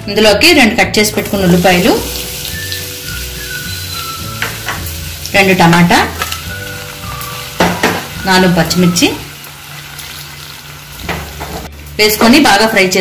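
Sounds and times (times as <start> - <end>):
onions sizzling in hot oil: 1.0 - 13.0.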